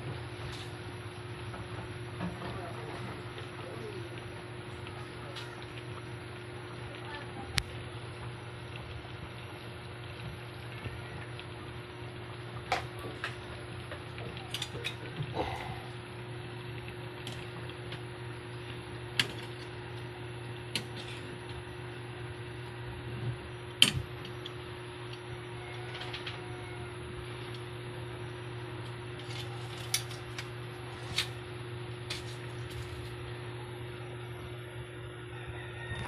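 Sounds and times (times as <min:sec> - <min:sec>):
stove humming: 0:00.0 - 0:36.0.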